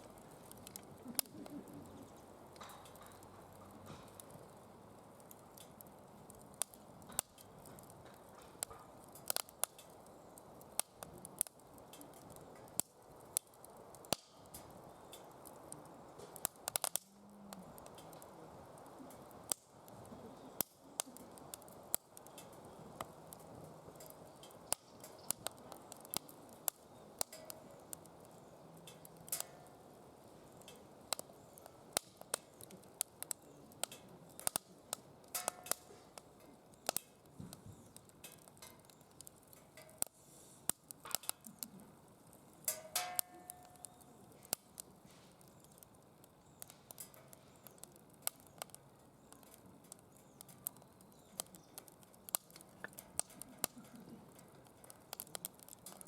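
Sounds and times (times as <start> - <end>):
fire hissing: 0.0 - 56.0
wood fire crackling and popping: 0.0 - 56.0.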